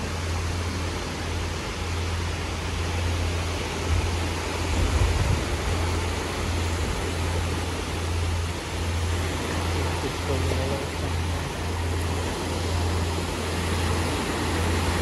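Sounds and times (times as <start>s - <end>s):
waves washing up a beach: 0.0s - 15.0s
wind rumbling on microphone: 0.0s - 15.0s.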